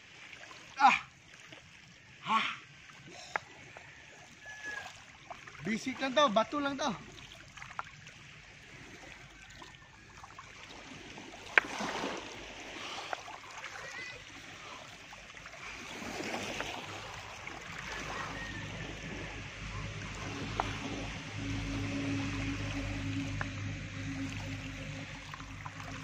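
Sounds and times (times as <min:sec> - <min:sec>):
water lapping around legs: 0:00.0 - 0:26.0.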